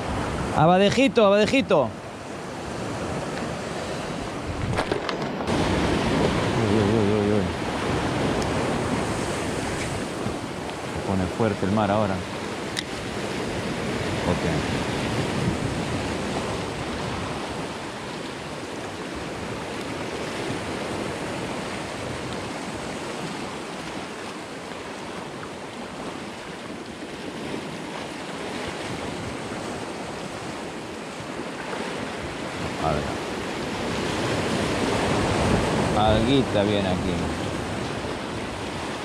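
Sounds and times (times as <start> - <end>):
wind buffeting the microphone: 0.0 - 39.0.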